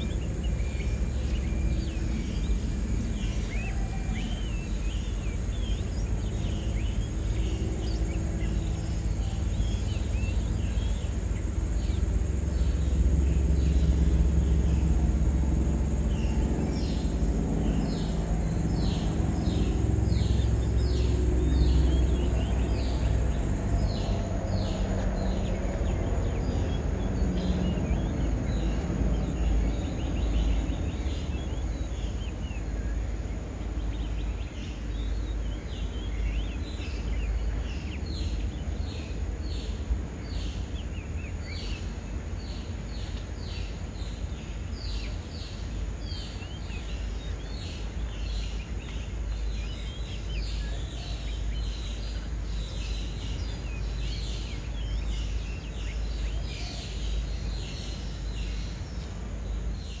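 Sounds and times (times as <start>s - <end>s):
low background rumble: 0.0s - 60.0s
small birds calling: 0.0s - 60.0s.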